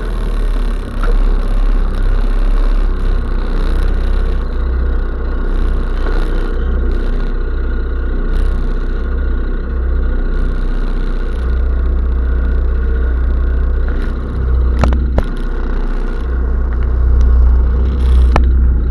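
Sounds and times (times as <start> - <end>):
snowmobile engine running: 0.0 - 18.9.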